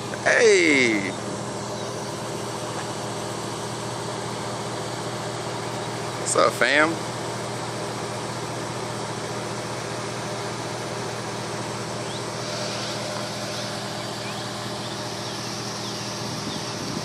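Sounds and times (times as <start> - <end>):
fan running: 0.0 - 17.0
vehicle engine idling: 0.0 - 17.0.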